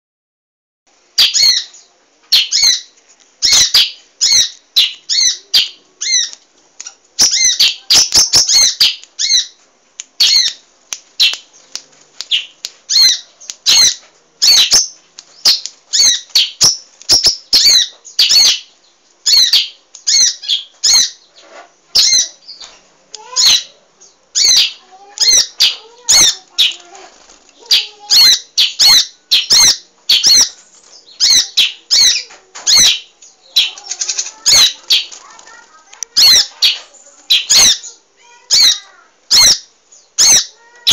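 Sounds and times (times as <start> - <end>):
bird chirping: 1.2 - 9.6, 10.2 - 40.9.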